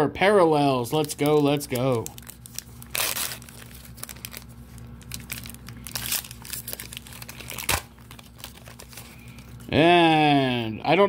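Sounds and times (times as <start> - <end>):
wrapper crinkling and tearing: 0.8 - 9.7.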